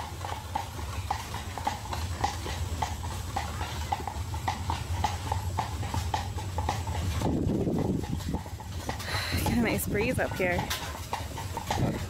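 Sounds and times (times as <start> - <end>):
carriage rumbling: 0.0 - 12.0
horse hooves clip-clopping: 0.0 - 12.0.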